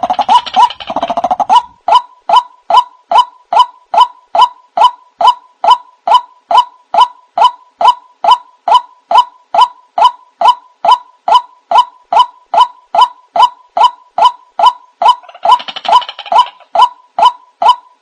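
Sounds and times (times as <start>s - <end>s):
waterhen call: 0.0s - 17.8s.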